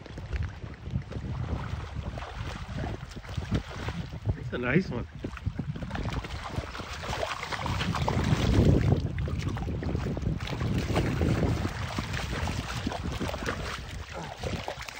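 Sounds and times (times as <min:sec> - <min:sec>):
fish splashing in water: 0:00.0 - 0:04.3, 0:05.2 - 0:14.9
wading splashes: 0:00.0 - 0:14.9
wind rumbling on microphone: 0:00.0 - 0:14.9.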